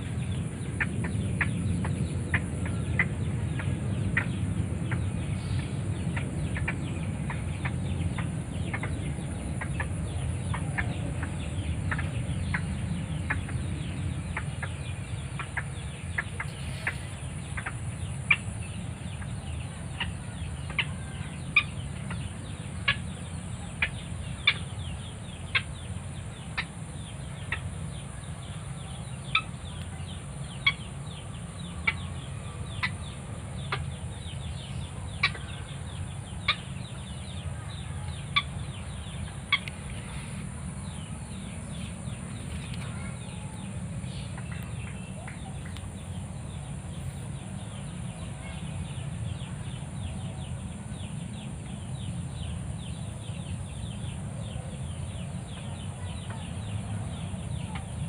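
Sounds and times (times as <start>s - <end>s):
bird calling: 0.0s - 47.6s.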